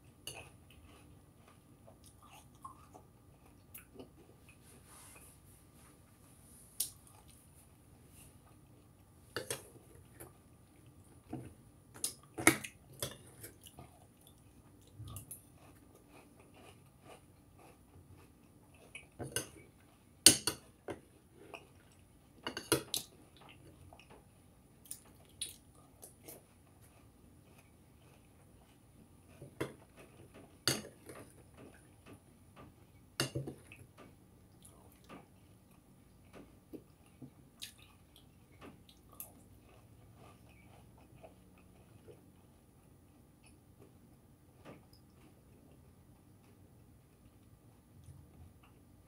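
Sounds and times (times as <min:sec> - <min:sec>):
chewing crackles: 0:08.3 - 0:49.0.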